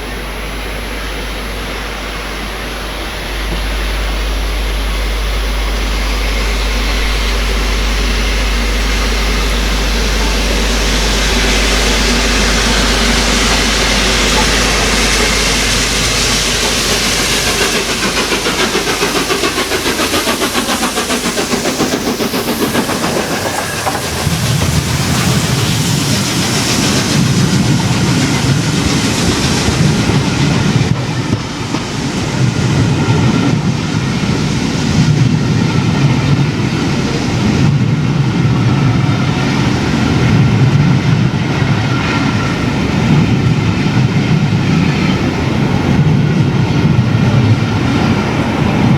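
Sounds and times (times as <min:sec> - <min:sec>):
train passing on rails: 0:00.0 - 0:48.9
wheels clicking over rail joints: 0:08.1 - 0:48.9.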